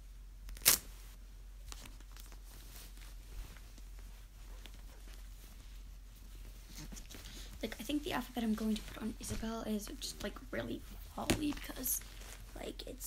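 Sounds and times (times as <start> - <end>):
fabric rustling: 0.8 - 13.0.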